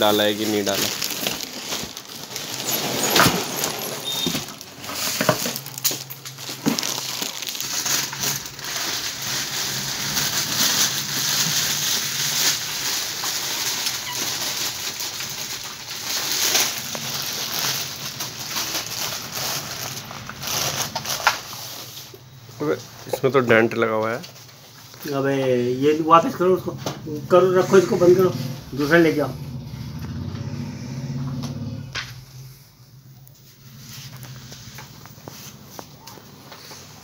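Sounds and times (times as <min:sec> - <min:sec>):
plastic wrap rustling and crinkling: 0:00.0 - 0:30.3, 0:32.1 - 0:37.0.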